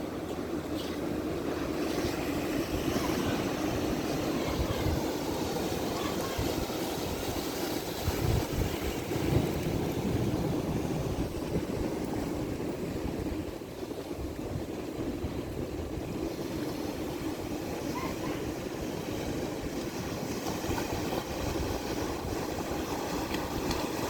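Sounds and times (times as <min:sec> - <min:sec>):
ocean surf washing onto shore: 0:00.0 - 0:24.0
wind buffeting microphone: 0:00.0 - 0:24.0.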